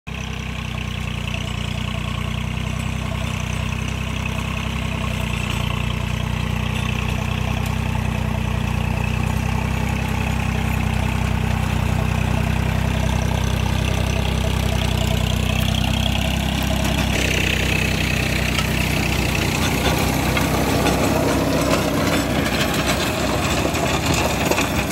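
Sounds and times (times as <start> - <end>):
rotavator tilling dry soil: 0.1 - 24.9
tractor diesel engine running: 0.1 - 24.9.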